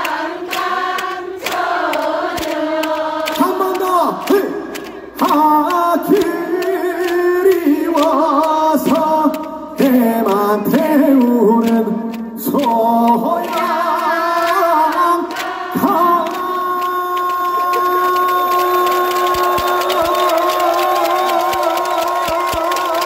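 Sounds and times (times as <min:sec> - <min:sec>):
man singing through microphone: 0:03.3 - 0:23.0.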